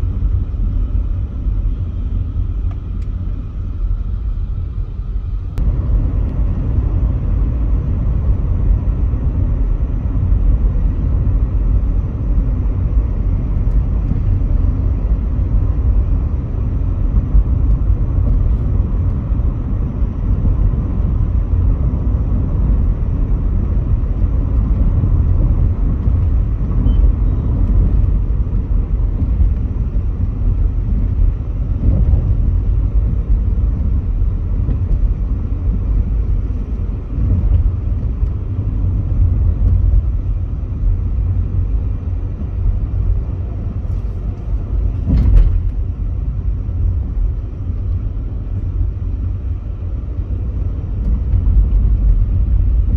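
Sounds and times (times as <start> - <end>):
car cabin road and engine rumble: 0.0 - 52.9.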